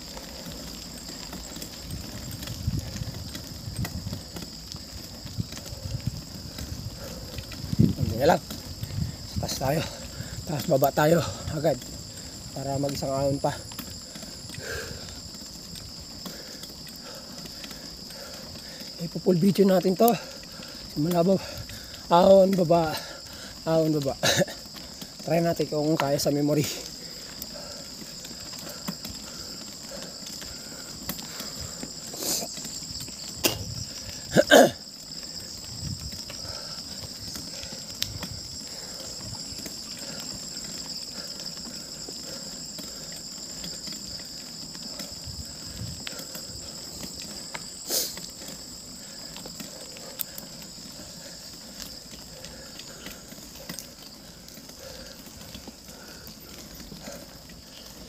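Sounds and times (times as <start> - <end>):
shrill insect chorus: 0.0 - 58.0.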